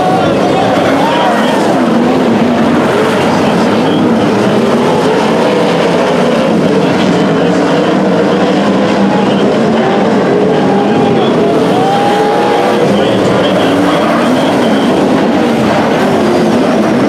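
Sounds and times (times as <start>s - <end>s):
race car engines racing: 0.0s - 17.0s.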